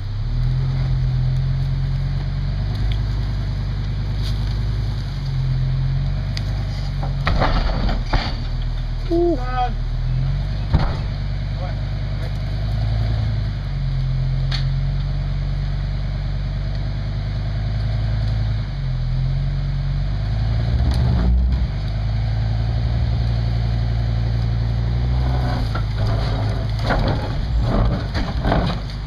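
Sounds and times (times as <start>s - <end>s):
heavy vehicle engine running: 0.0s - 29.0s.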